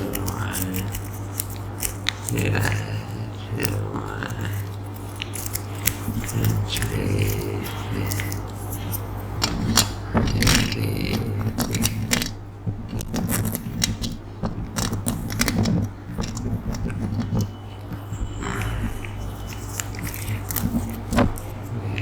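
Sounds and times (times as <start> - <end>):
steady low hum: 0.0 - 22.0
toothpicks clicking and scratching: 0.0 - 22.0.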